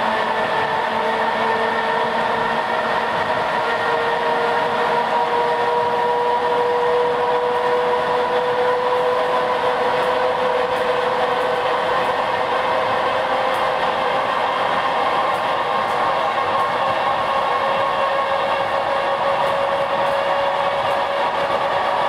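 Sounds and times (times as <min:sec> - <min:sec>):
train motor whine: 0:00.0 - 0:22.0
train wheels rumbling on track: 0:00.0 - 0:22.0.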